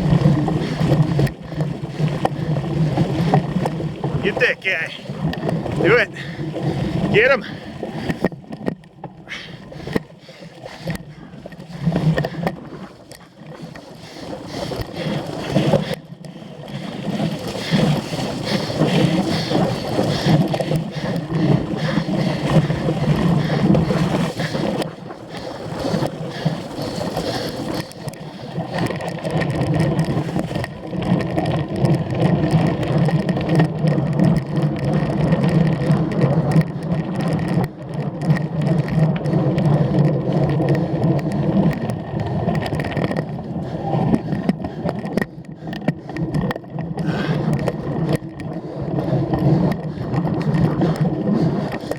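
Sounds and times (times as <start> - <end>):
bike tyre and frame rumble: 0.0 - 51.9.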